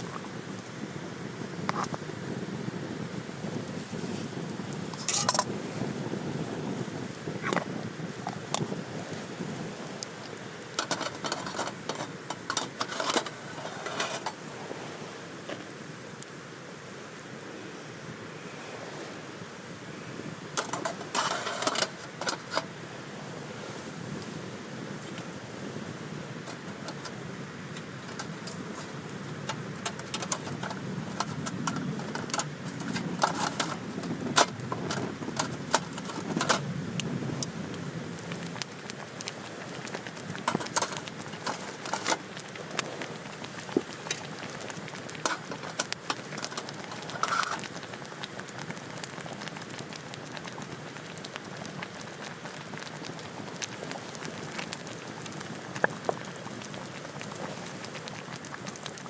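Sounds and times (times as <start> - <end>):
fire pops and snaps: 0.0 - 16.4, 18.4 - 59.0
campfire crackling: 0.0 - 59.0.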